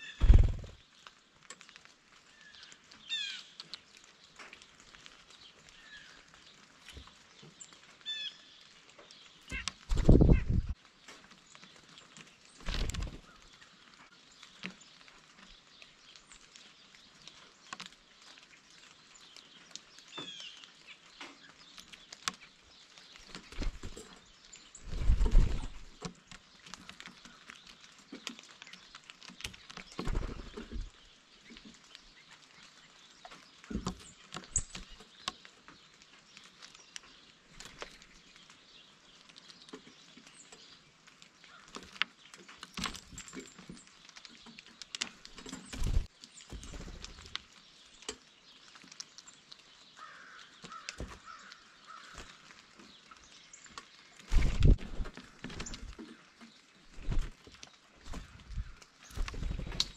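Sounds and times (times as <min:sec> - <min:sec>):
birds pecking and tapping: 0:00.0 - 0:59.9.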